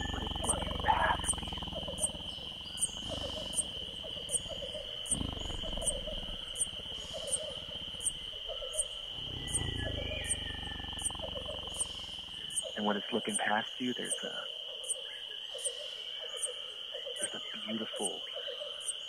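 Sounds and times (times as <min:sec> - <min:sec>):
high insect drone: 0:00.0 - 0:19.0
short croaking calls: 0:00.0 - 0:19.0.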